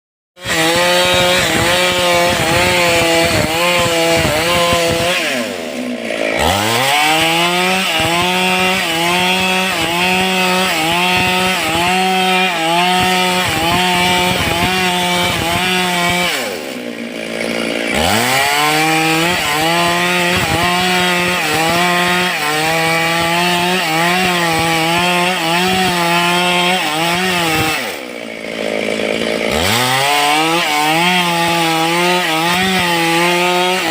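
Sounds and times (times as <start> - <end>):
chainsaw cutting wood: 0.4 - 33.9.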